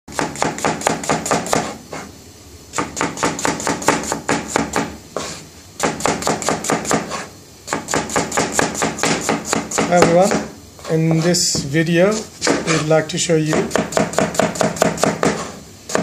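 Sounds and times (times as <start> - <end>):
knife chopping on cutting board: 0.1 - 2.1, 2.8 - 10.5, 11.6 - 12.8, 13.5 - 16.0.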